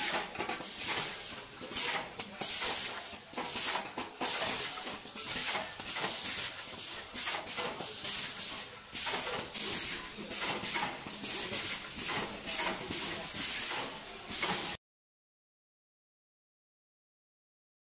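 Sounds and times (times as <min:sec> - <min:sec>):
forming machine running: 0:00.0 - 0:14.8.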